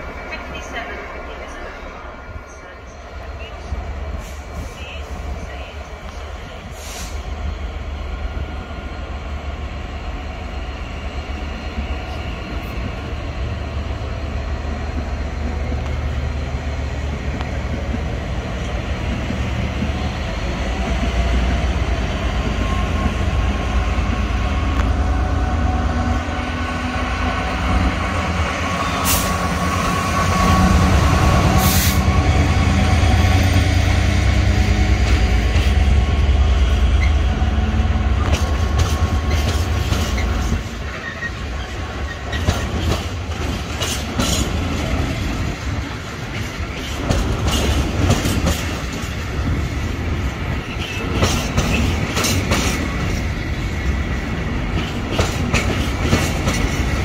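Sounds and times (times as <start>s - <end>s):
train rumble approaching: 0.0s - 57.0s.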